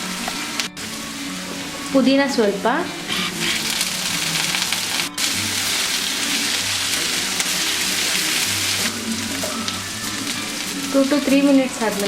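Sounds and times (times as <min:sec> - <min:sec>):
background music: 0:00.0 - 0:12.0
food sizzling in oil: 0:00.0 - 0:12.0.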